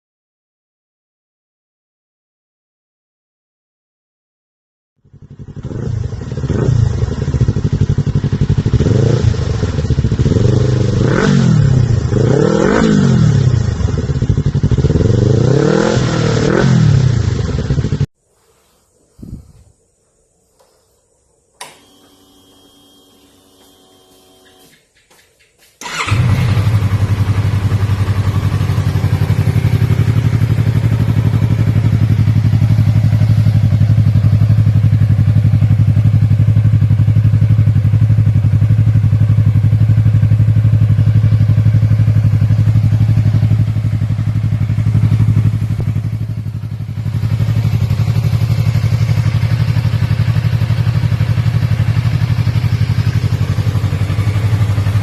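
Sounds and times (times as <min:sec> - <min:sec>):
motorcycle engine starting and idling: 0:05.0 - 0:18.1, 0:21.6 - 0:55.0.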